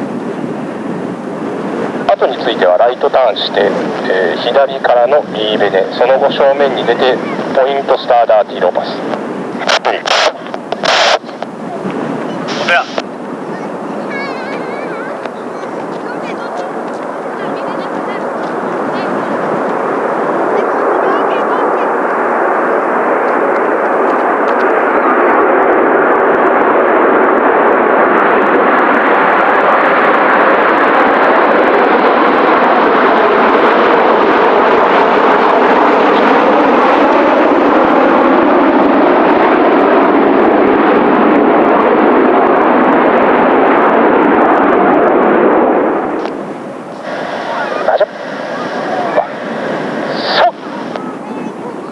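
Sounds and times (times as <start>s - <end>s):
jet aircraft roar: 0.0s - 51.9s.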